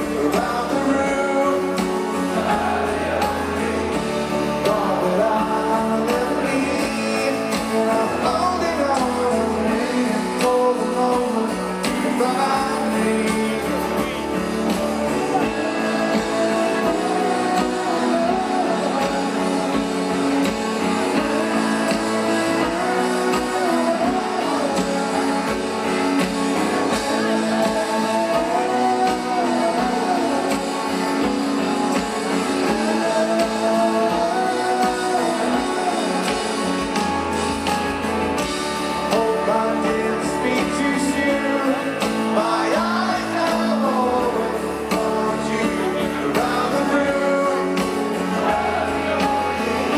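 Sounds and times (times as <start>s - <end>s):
drums: 0.0s - 49.9s
electric guitars: 0.0s - 49.9s
person singing: 0.0s - 49.9s.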